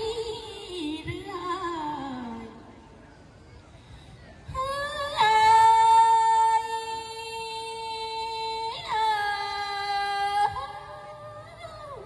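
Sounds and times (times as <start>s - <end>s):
woman singing folk song: 0.0s - 2.5s, 4.6s - 12.0s.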